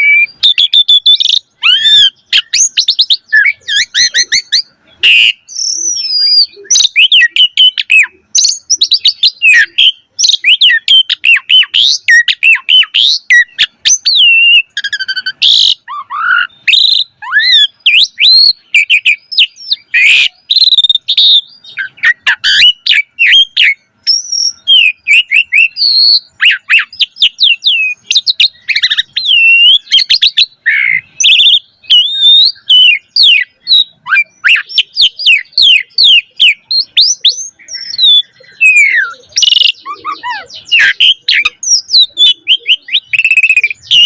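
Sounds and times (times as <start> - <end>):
starling singing varied song: 0.0 - 44.0.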